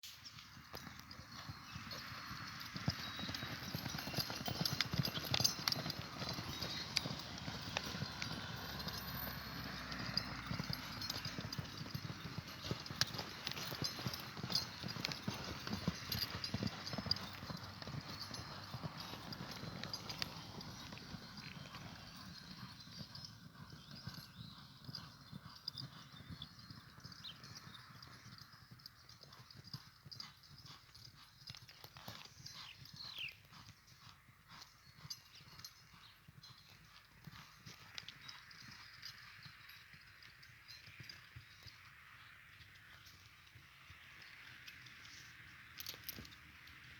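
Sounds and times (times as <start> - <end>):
horses' hooves stamping: 0.1 - 46.9.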